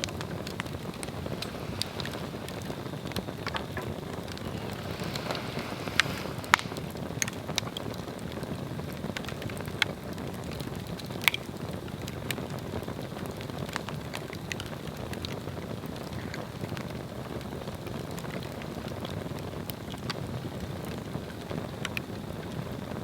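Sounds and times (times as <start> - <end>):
fire flame rushing: 0.0 - 23.0
wood crackling and popping: 0.0 - 23.0.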